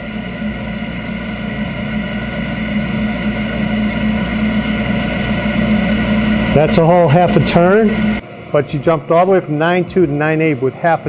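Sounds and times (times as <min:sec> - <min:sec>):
boiler blower and burner hum: 0:00.0 - 0:11.0.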